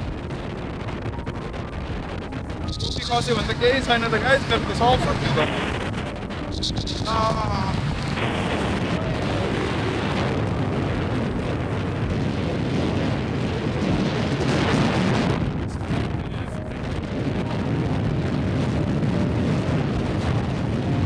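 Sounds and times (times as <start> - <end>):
boat rushing over water: 0.0 - 21.0
wind buffeting microphone: 0.0 - 21.0.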